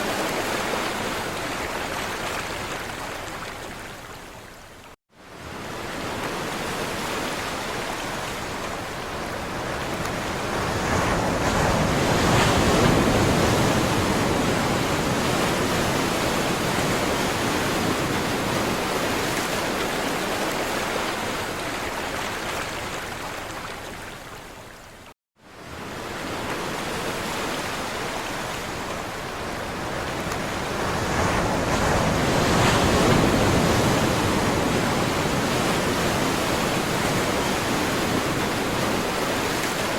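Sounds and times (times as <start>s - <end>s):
ocean waves breaking: 5.3s - 23.8s, 25.6s - 39.9s.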